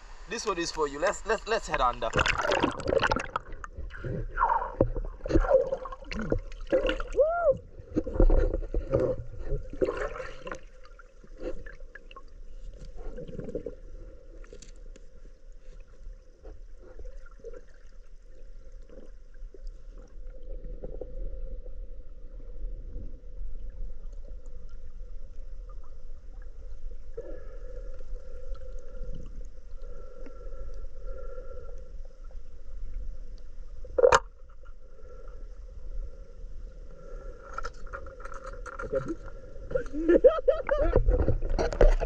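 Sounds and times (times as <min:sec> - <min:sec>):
muffled river water underwater: 0:00.0 - 0:42.0.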